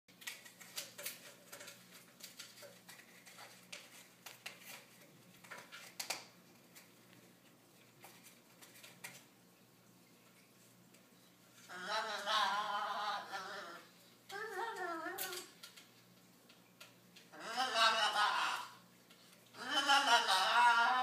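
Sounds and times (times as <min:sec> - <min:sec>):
low steady hum: 0:00.1 - 0:21.0.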